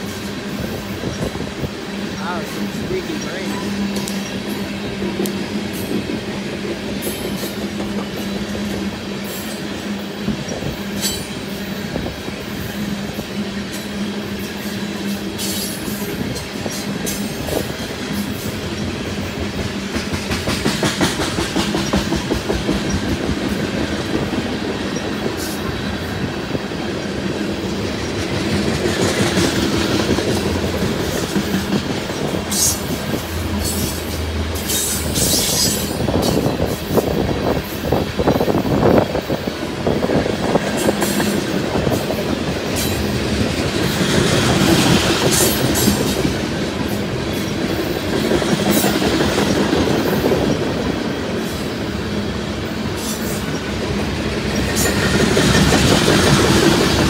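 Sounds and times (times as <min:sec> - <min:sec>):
train rumbling: 0:00.0 - 0:57.0
train wheels clicking over rail joints: 0:00.0 - 0:57.0.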